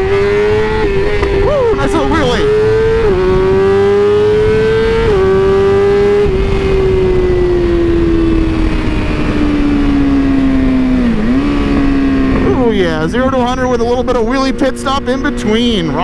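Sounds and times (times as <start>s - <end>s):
motorcycle engine accelerating hard: 0.0s - 16.0s.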